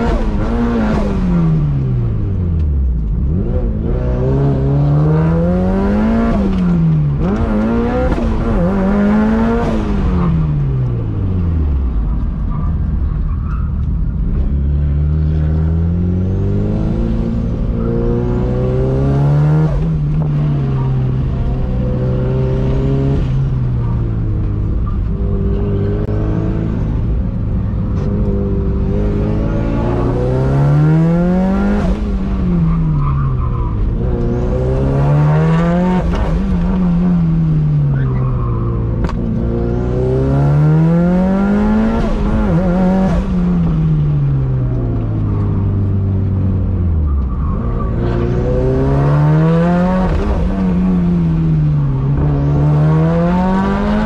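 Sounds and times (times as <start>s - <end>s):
car engine revving: 0.0s - 12.4s, 13.9s - 54.0s.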